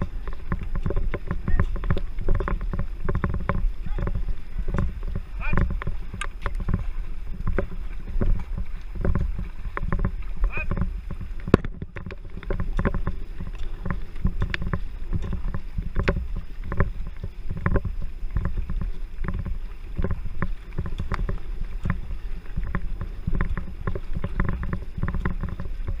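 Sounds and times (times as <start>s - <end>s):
low rumble of water and wind: 0.0s - 26.0s
paddle knocks: 0.0s - 26.0s
water splashing against hull: 0.0s - 26.0s.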